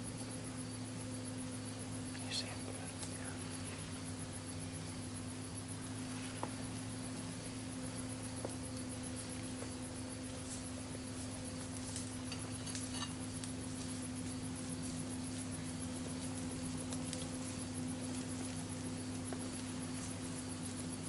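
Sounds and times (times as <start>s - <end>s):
steady low hum: 0.0s - 21.0s
faint hiss: 0.3s - 21.0s
faint ticks: 1.4s - 4.7s, 6.1s - 21.0s.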